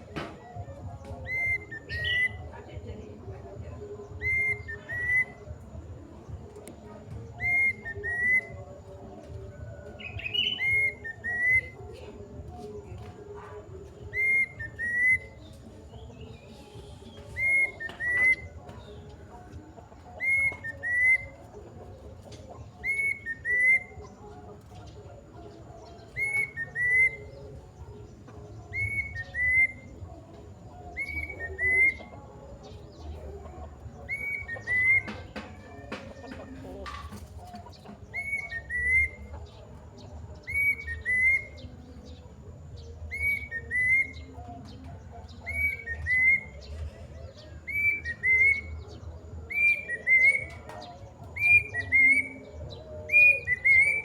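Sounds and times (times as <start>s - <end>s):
birds chirping faintly: 0.0s - 54.0s
cuckoo whistled call: 0.1s - 2.5s, 4.0s - 5.6s, 7.3s - 8.8s, 9.8s - 11.9s, 14.1s - 19.2s, 20.0s - 21.6s, 22.6s - 24.2s, 25.4s - 41.9s, 42.8s - 54.0s.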